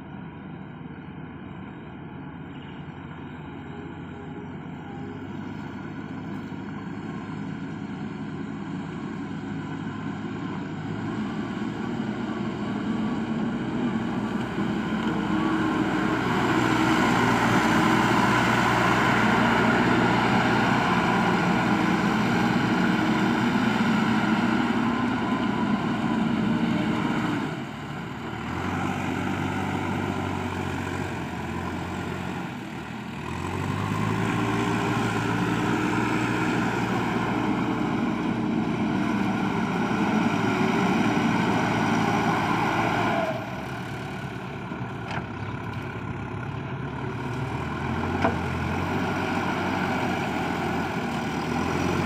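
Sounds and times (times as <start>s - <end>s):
diesel engine of backhoe loader: 0.0s - 52.0s.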